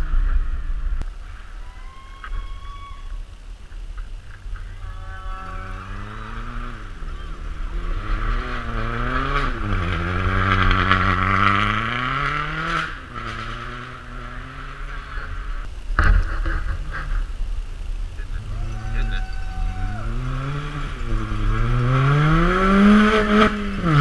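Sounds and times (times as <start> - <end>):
rally car engine revving: 3.7 - 24.0.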